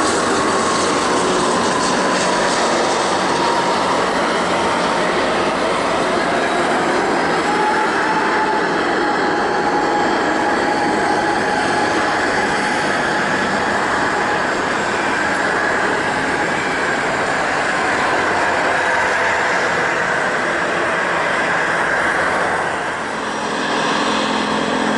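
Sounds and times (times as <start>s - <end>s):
faint jet engine whine: 0.0s - 24.9s
jet engine rush: 0.0s - 24.9s.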